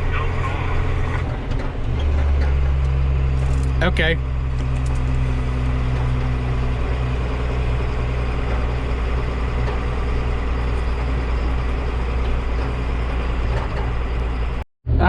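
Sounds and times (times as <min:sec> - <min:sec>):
combine harvester engine drone: 0:00.0 - 0:15.0.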